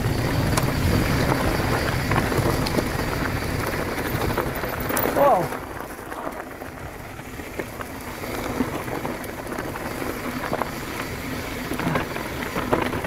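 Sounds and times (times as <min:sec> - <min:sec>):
bike tyres rolling over gravel: 0:00.0 - 0:13.0.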